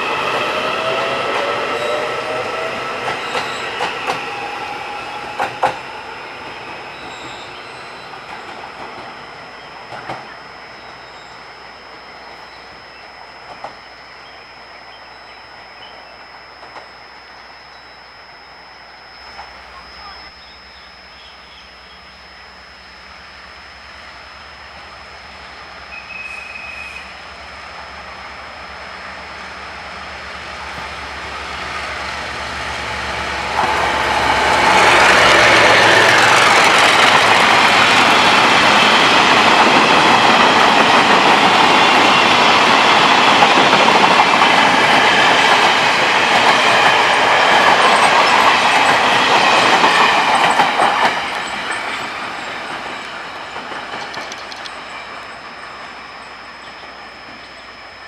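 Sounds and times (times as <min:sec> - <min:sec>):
train passing: 0:00.0 - 0:58.0.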